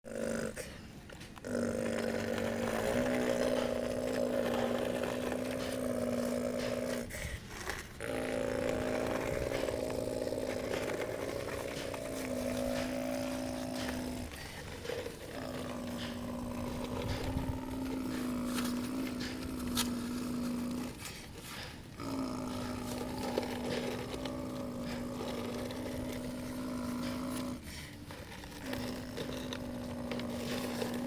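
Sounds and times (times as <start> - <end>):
model motor and pump whining: 1.0 - 31.0.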